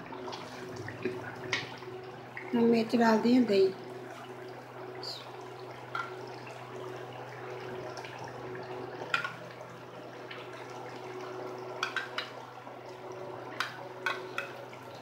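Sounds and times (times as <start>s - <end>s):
curry bubbling and sizzling: 0.0s - 15.0s.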